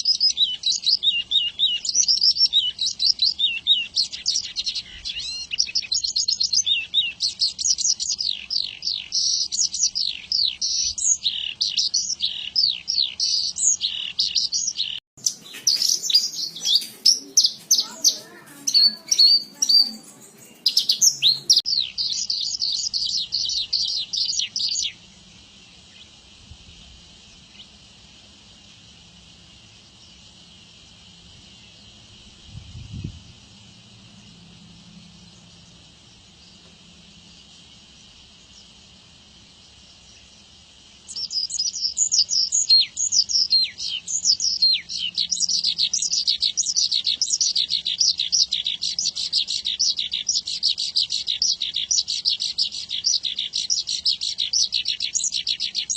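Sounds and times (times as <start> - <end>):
bushlark singing: 0.0 - 55.9.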